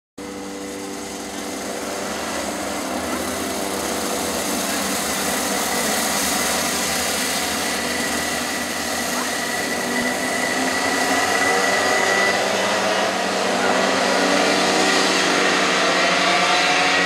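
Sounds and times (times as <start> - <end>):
kart engines buzzing at high revs: 0.2 - 17.0.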